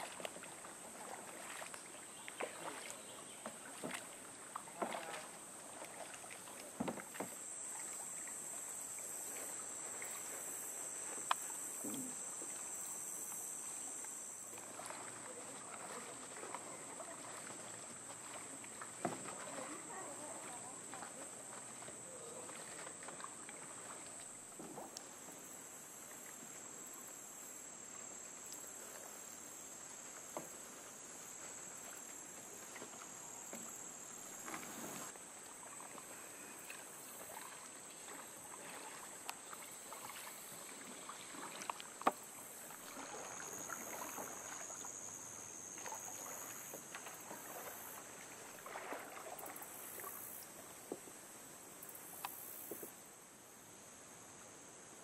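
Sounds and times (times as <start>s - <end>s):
lower insect tone: 0.0s - 55.0s
paddle strokes and drips: 0.0s - 55.0s.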